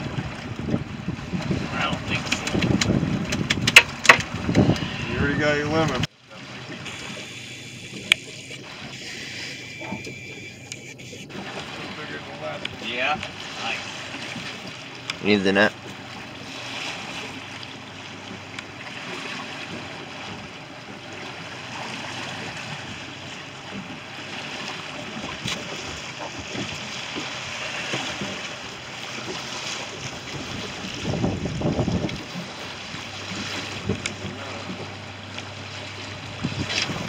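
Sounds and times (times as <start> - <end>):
choppy sea water washing: 0.0 - 37.0
wind: 0.0 - 37.0.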